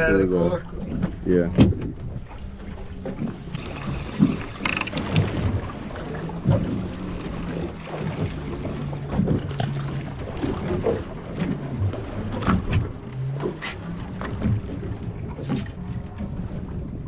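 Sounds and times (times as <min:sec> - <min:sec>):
outboard motors humming: 0:00.0 - 0:17.0
water splashes: 0:00.0 - 0:17.0.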